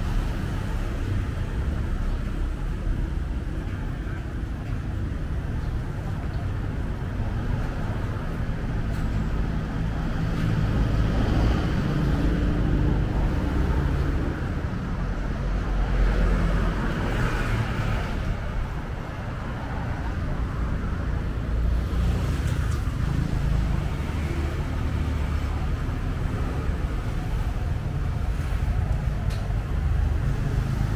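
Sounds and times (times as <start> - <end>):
vehicle engines passing: 0.0 - 30.9.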